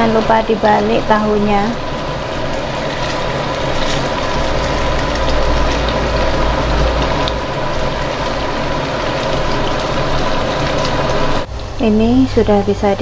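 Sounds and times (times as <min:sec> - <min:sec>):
food sizzling in hot oil: 0:00.0 - 0:13.0
steady mechanical hum: 0:00.0 - 0:13.0.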